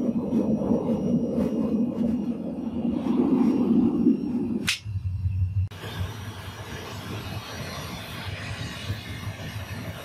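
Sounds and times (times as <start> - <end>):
gas furnace roaring: 0.0 - 10.0
low hum: 0.0 - 10.0.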